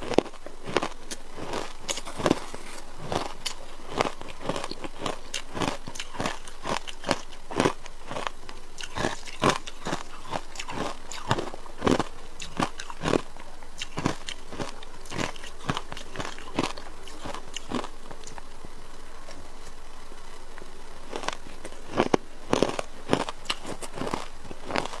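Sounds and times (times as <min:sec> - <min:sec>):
ice crunching between teeth: 0:00.0 - 0:18.5, 0:21.1 - 0:25.0.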